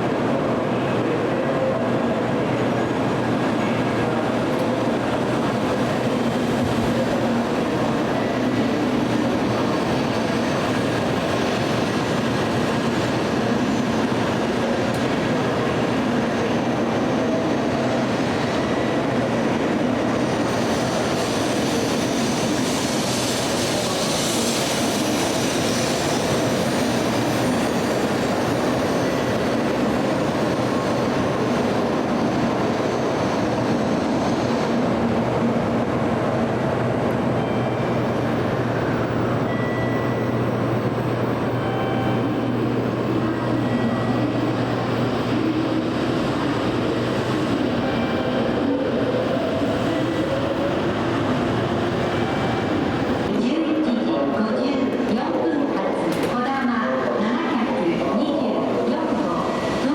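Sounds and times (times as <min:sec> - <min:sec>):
train rumble and hiss: 0:00.0 - 0:59.9.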